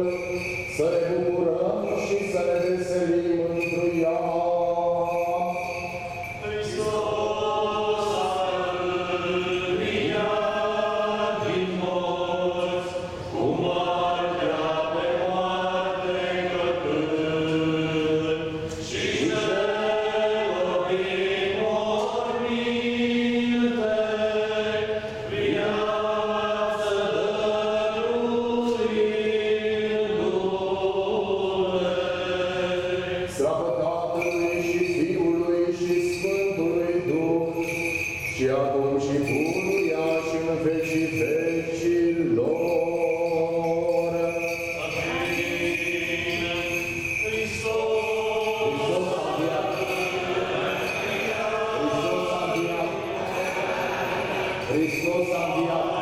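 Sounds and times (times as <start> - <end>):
choir chanting a hymn: 0.0 - 56.0.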